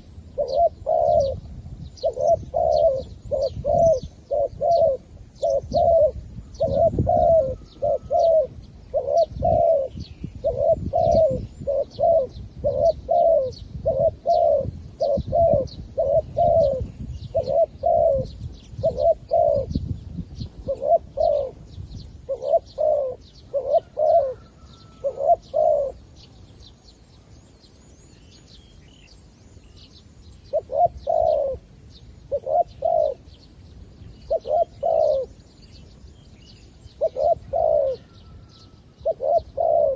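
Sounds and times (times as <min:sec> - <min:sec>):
dove cooing: 0:00.0 - 0:26.3, 0:30.5 - 0:33.4, 0:34.2 - 0:35.4, 0:36.8 - 0:39.9.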